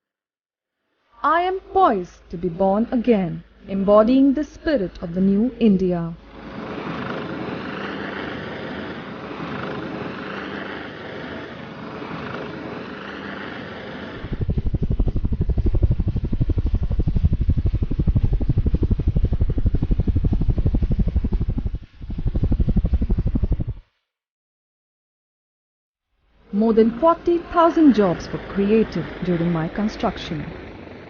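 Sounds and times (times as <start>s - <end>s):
steady hum: 1.2s - 23.9s, 26.2s - 31.0s
helicopter rotors beating: 1.3s - 23.9s, 26.4s - 31.0s.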